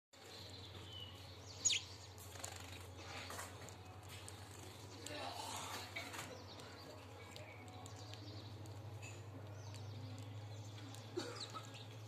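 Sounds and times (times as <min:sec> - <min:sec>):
sparrows chirping faintly: 0:00.2 - 0:12.0.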